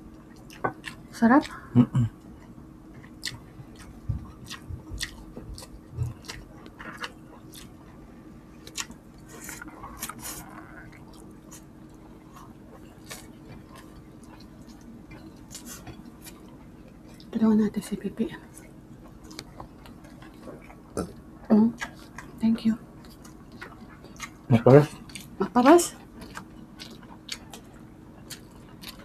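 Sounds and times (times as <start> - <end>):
close chewing: 0.0 - 8.0, 8.6 - 17.4, 18.5 - 29.0.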